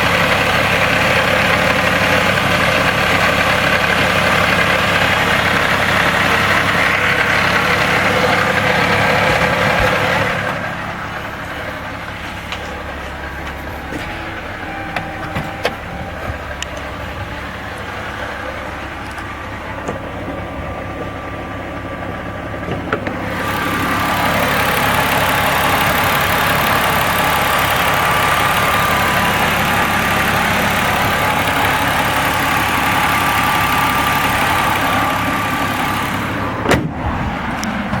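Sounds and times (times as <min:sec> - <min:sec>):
car engine knocking: 0:00.0 - 0:38.0.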